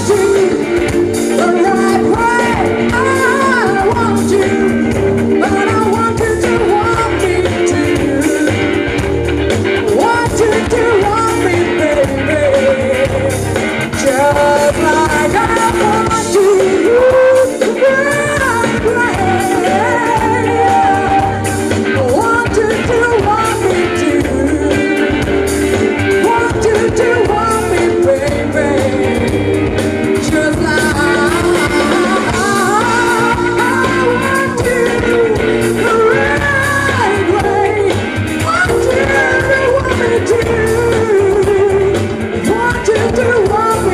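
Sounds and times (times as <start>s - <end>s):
woman singing pop-jazz song: 0.0s - 9.1s, 9.8s - 43.9s
live band with drum kit: 0.0s - 43.9s.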